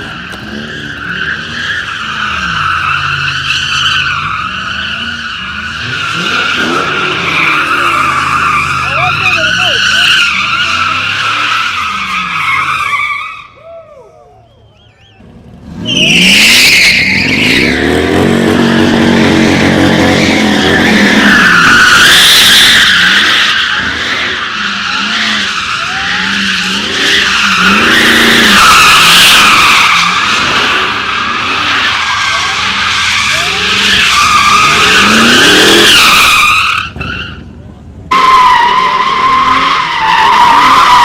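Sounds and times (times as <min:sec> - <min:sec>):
car engine revving: 0:00.0 - 0:13.0, 0:15.2 - 0:41.0
tyres squealing: 0:00.0 - 0:41.0.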